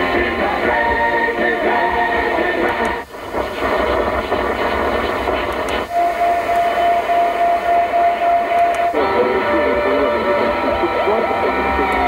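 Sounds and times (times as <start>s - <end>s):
faint distant radio stations: 0.0s - 12.0s
radio music: 0.0s - 12.0s
radio static hissing: 0.0s - 12.0s
steady whistling tone: 0.6s - 12.0s.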